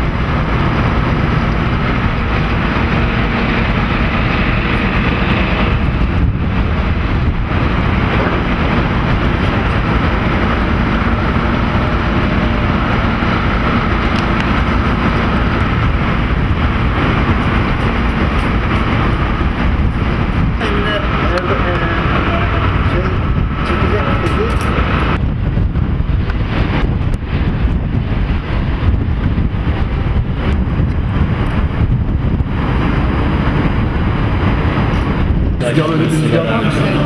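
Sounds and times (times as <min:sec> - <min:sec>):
city traffic: 0:00.0 - 0:37.0
wind buffeting microphone: 0:00.0 - 0:37.0.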